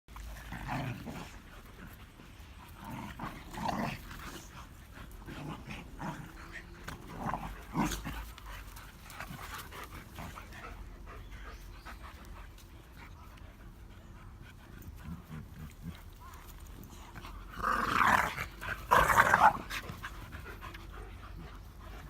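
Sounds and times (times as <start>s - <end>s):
dogs growling in play: 0.1s - 22.0s.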